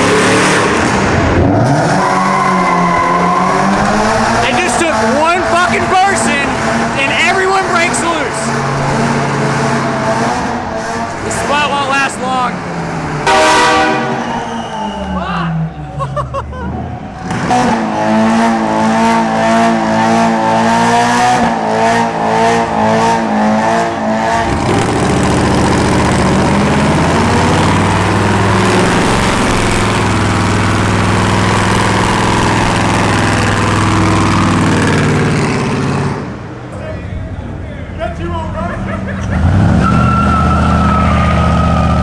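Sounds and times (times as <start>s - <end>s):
car engine revving: 0.0s - 15.0s, 16.7s - 36.7s, 37.3s - 42.0s.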